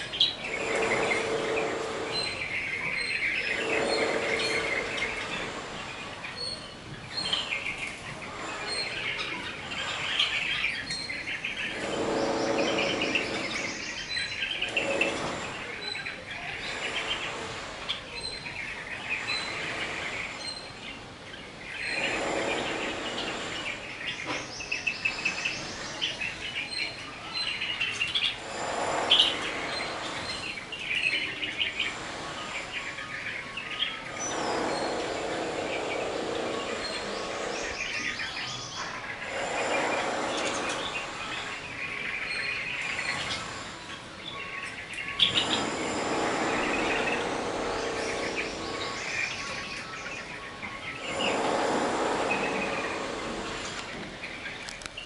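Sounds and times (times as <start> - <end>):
birds chattering: 0.0 - 55.0.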